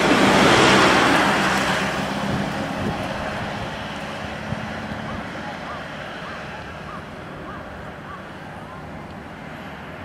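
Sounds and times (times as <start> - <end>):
electric train running past: 0.0 - 10.0.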